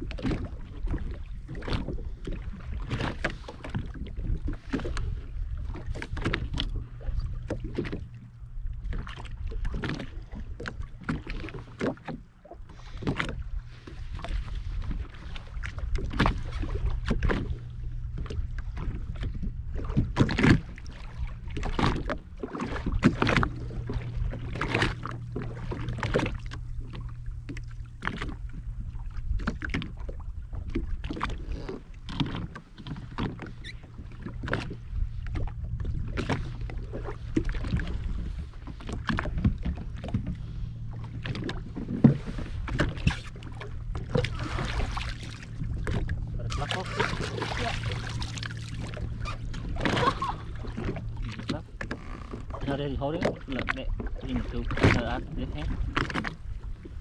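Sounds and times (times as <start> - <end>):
jet ski engine hum: 0.0 - 57.0
knocks and splashes against hull: 0.0 - 57.0.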